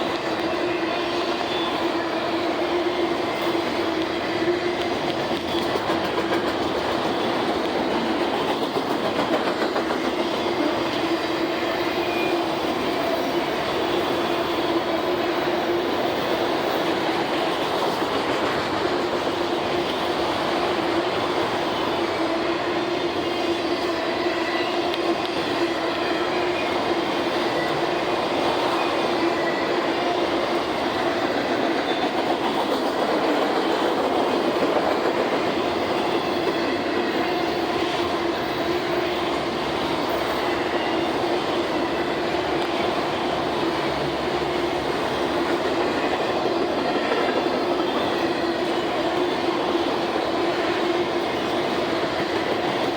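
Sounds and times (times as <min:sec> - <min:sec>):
freight train wheels rumbling on rails: 0:00.0 - 0:52.9.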